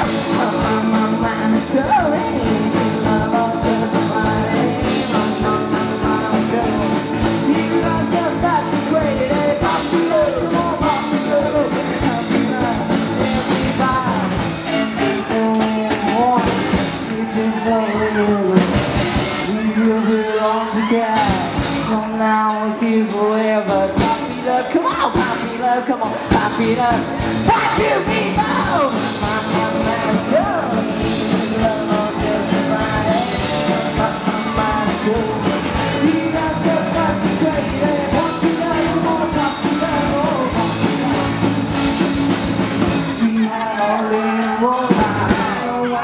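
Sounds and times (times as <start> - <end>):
blues-rock band playing: 0.0 - 46.0
lead vocal singing: 0.0 - 46.0.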